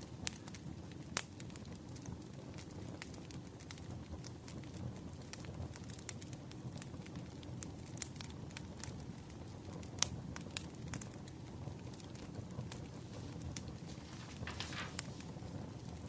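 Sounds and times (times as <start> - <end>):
firewood crackling and popping: 0.0 - 16.0
low fire rumble: 0.0 - 16.0.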